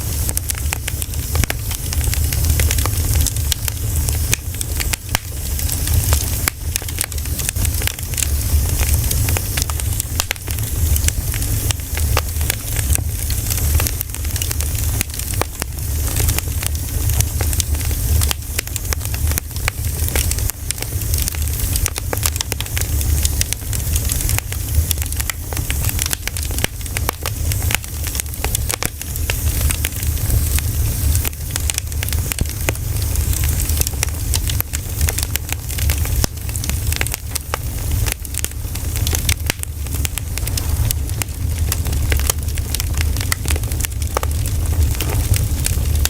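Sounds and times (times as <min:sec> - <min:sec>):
campfire crackling and snapping: 0:00.0 - 0:46.0
fire low rumble: 0:00.0 - 0:46.0.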